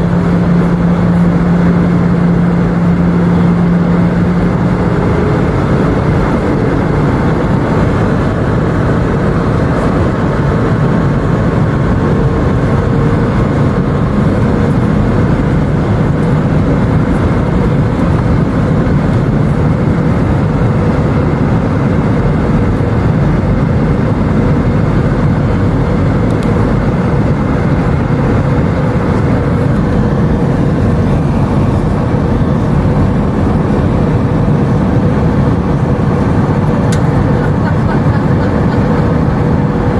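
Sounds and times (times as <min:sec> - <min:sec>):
faint steady whine: 0:00.0 - 0:39.9
jet engine rush in cabin: 0:00.0 - 0:39.9.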